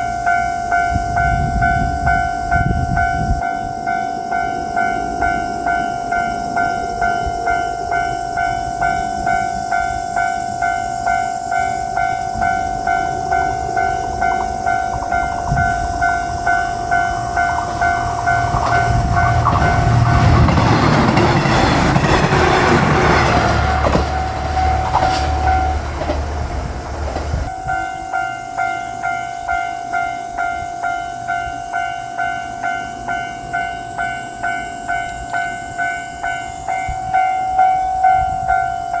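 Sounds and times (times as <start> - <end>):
level crossing bell ringing: 0.0 - 25.9, 27.5 - 39.0
train rumble and wheel clatter: 0.0 - 39.0.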